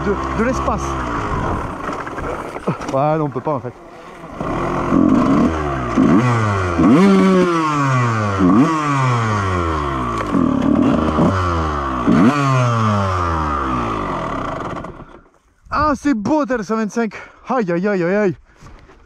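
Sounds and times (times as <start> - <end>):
motocross engine revving: 0.0 - 15.3.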